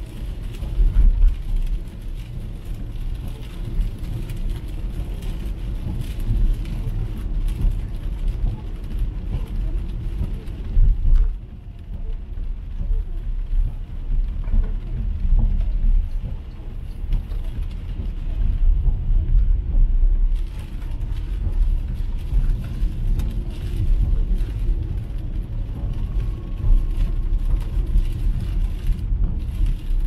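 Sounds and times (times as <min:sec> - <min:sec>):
tyre and road rumble: 0:00.0 - 0:30.0.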